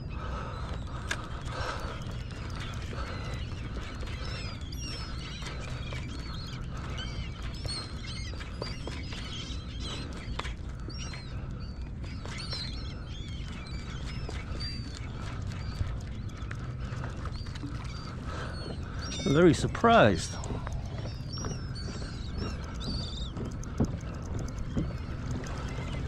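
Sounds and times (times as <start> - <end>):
seabirds calling: 0.0 - 26.0.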